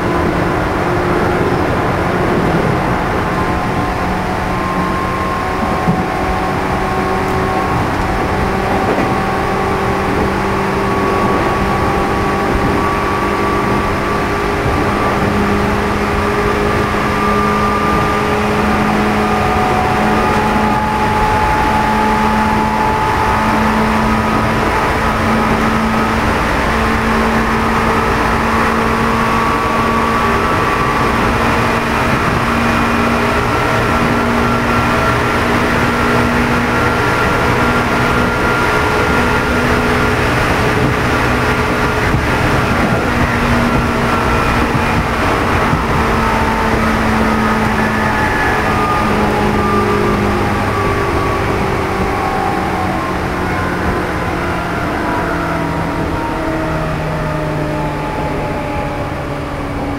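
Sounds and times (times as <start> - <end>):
train motor whine: 0.0 - 59.9
wheels rumbling on rail: 0.0 - 59.9.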